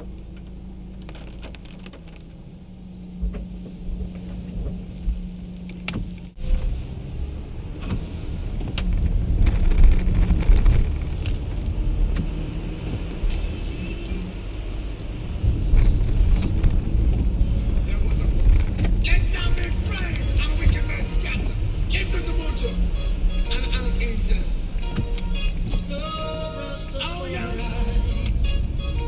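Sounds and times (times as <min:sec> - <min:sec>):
car engine hum: 0:00.0 - 0:29.0
low rumble of wind: 0:00.0 - 0:29.0
road noise: 0:00.0 - 0:29.0.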